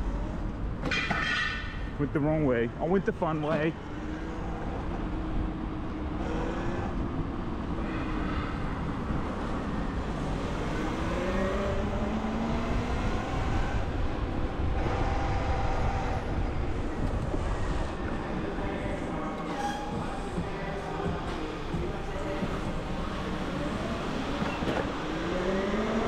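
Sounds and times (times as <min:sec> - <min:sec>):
wind and road rumble: 0:00.0 - 0:26.0.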